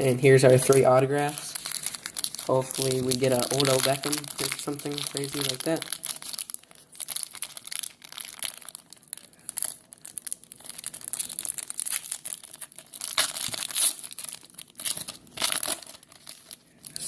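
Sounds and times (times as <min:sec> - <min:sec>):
plastic wrapper crinkling and tearing: 0:00.2 - 0:17.0.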